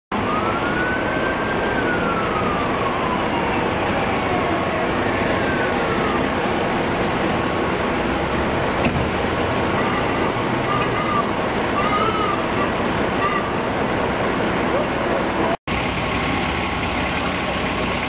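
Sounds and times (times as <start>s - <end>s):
emergency vehicle siren: 0.1s - 18.0s
idling engines and street traffic: 0.1s - 18.0s.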